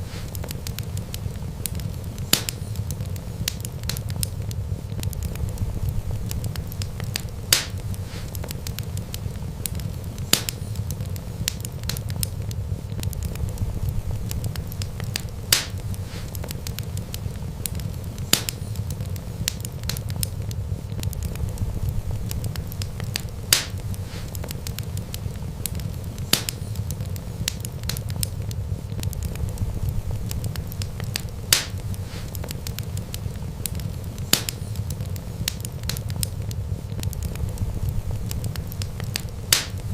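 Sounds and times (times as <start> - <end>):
fire crackling: 0.0 - 39.9
flames rumbling: 0.0 - 39.9
wood fire popping: 0.0 - 39.9.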